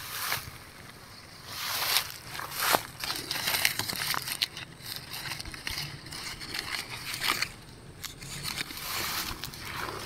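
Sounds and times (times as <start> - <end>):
branches rustling and crackling: 0.0 - 10.0.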